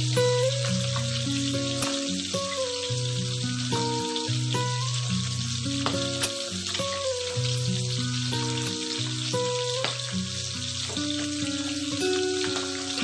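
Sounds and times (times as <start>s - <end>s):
background music of held notes: 0.0s - 13.0s
fish sizzling in hot oil: 0.0s - 13.0s
oil popping: 0.0s - 13.0s.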